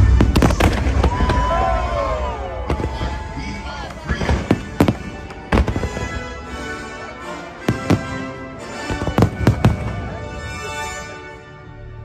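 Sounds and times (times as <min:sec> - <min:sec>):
fireworks bangs: 0:00.0 - 0:06.6, 0:07.6 - 0:10.7
music: 0:00.0 - 0:12.0.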